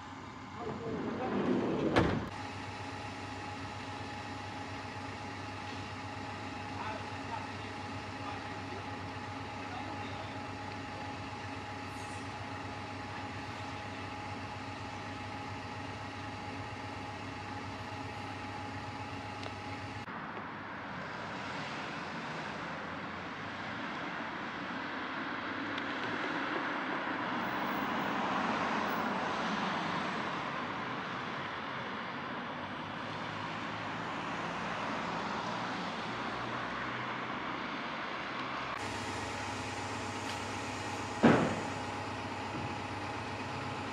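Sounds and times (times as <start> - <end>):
engine hum: 0.0 - 43.9
road traffic noise: 0.0 - 43.9.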